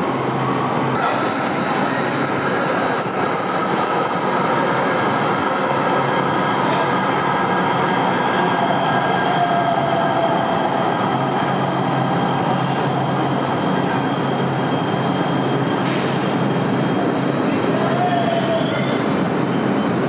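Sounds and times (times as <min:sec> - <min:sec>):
light rail train running: 0:00.0 - 0:20.0
wheel squeal: 0:01.0 - 0:06.8, 0:07.8 - 0:20.0.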